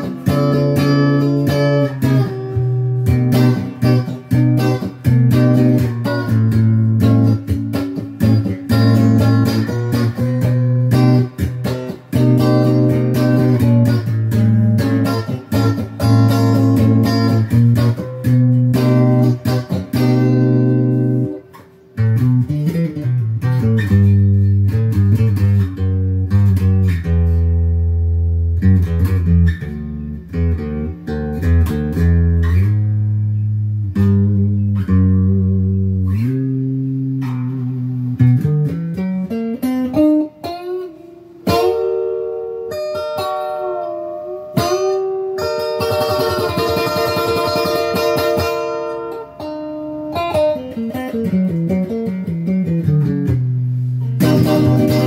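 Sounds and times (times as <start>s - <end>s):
electric guitar riffs and lead lines: 0.0s - 55.0s.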